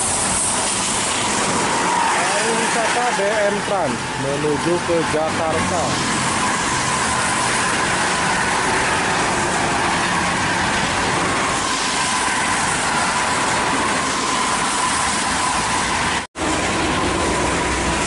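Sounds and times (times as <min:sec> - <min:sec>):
heavy rain: 0:00.0 - 0:18.0
tyres hissing through water: 0:00.0 - 0:18.0.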